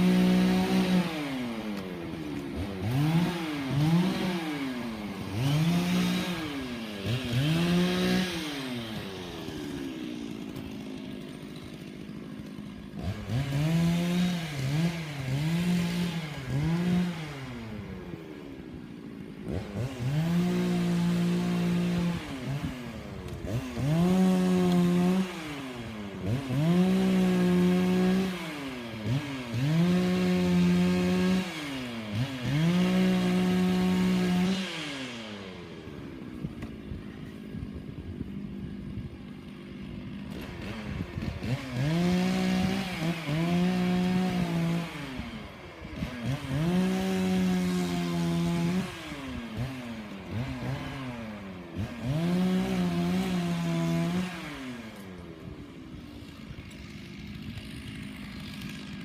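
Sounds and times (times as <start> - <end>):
chainsaw revving: 0.0 - 59.0.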